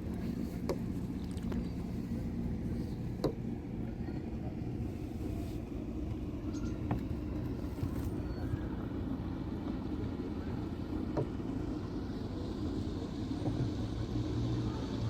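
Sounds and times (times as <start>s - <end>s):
motor boat engine rumbling: 0.0s - 15.0s.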